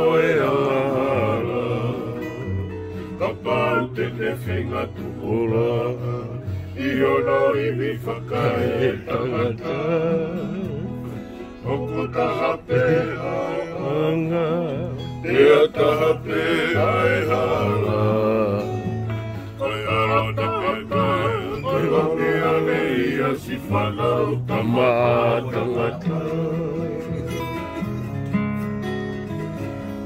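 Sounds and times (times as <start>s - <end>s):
men singing together: 0.0s - 18.9s, 19.6s - 27.6s.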